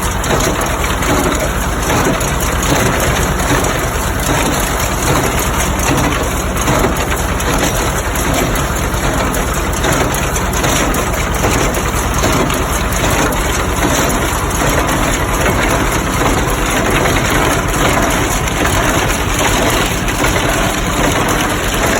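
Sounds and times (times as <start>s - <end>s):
hay baler clattering: 0.0s - 21.9s
tractor engine running: 0.0s - 21.9s.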